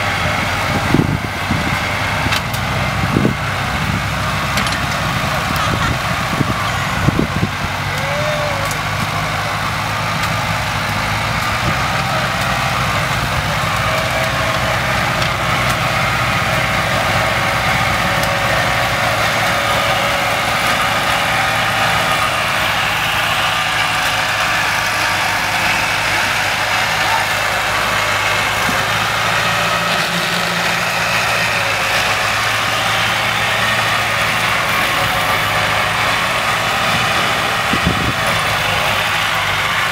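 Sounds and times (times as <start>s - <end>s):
loader engine running: 0.0s - 39.9s.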